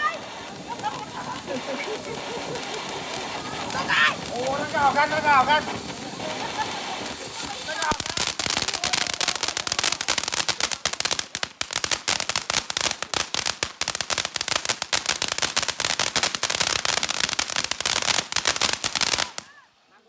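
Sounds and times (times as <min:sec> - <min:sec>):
firecrackers cracking: 0:00.0 - 0:19.7.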